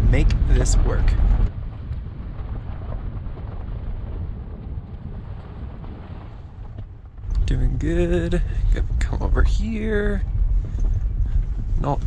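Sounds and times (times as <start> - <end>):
tyres rolling over dirt trail: 0.0 - 12.0.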